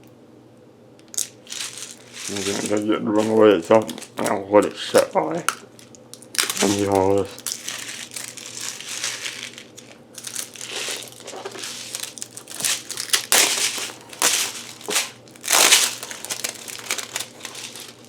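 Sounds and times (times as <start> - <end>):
plastic packaging crinkling: 1.1 - 18.0.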